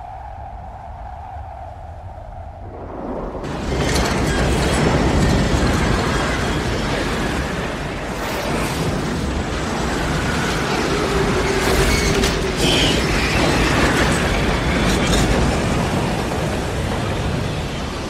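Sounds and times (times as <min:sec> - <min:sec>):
wind: 0:00.0 - 0:18.0
rain: 0:02.7 - 0:18.0.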